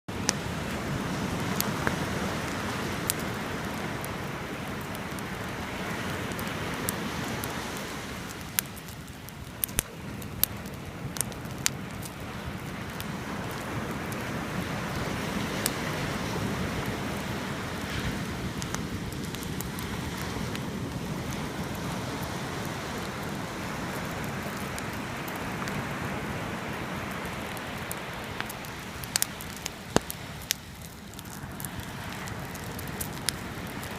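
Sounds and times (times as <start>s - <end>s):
bonfire crackling and popping: 0.1s - 33.9s
sea waves washing: 0.1s - 33.9s.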